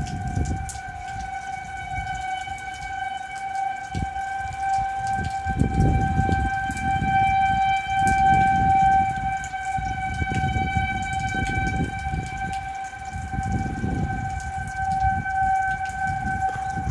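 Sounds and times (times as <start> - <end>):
low rumbling gusts: 0.0 - 2.6, 3.9 - 16.9
warning siren steady tone: 0.0 - 16.9.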